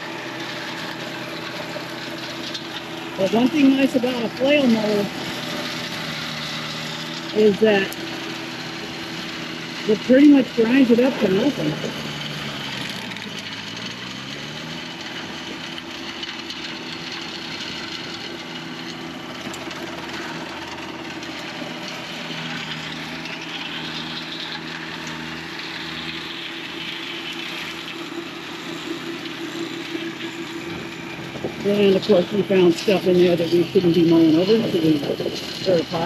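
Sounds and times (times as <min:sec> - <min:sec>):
flail mower working: 0:00.0 - 0:36.0
tractor diesel engine running: 0:00.0 - 0:36.0.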